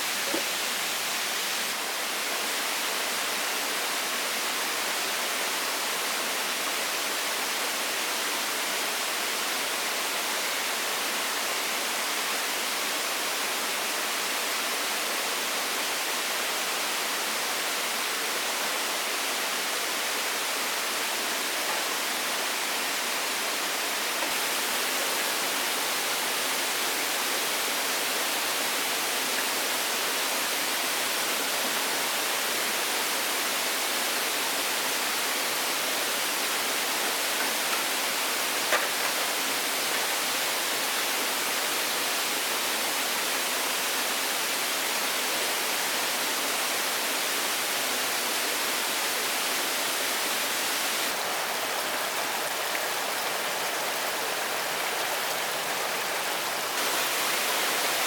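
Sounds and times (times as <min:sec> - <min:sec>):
water rushing: 0:00.0 - 0:07.6, 0:17.8 - 0:58.0.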